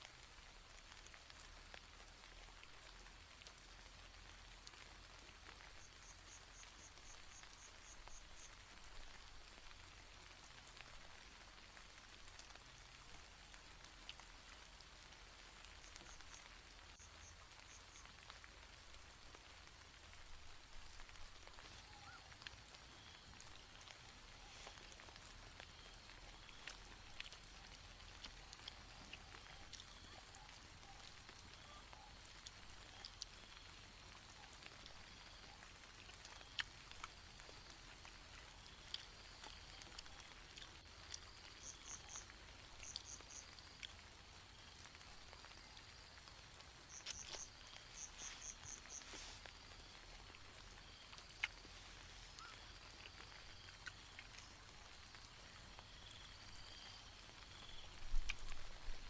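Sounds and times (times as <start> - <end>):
rain drops ticking on tent: 0.0 - 59.0.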